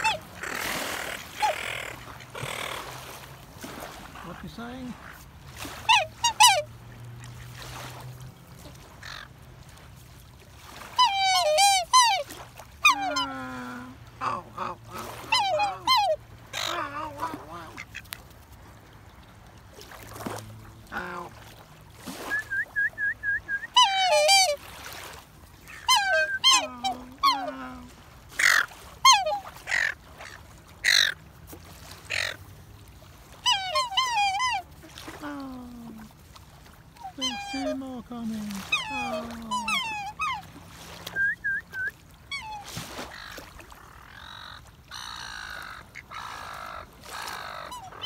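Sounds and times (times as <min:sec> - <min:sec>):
swans and ducks honking: 0:00.0 - 0:09.9, 0:10.6 - 0:18.2, 0:20.3 - 0:32.5, 0:33.3 - 0:36.1, 0:36.7 - 0:48.0.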